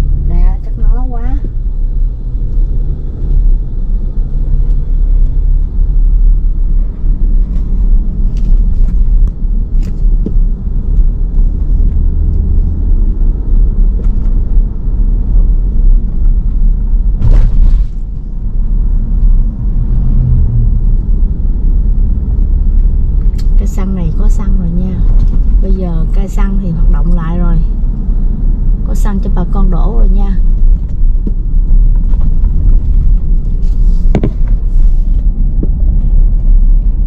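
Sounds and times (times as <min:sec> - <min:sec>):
car driving rumble: 0:00.0 - 0:37.0.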